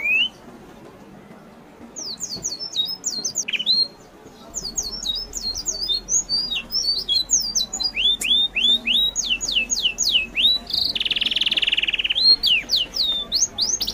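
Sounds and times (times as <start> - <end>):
bird chirping and trilling: 2.0 - 13.9.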